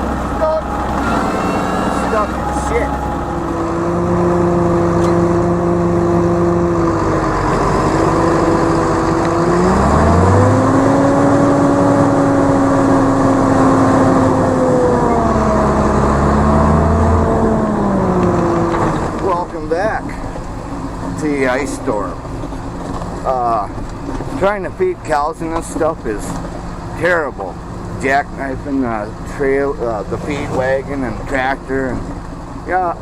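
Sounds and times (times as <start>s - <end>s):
tractor engine revving: 0.0s - 33.0s.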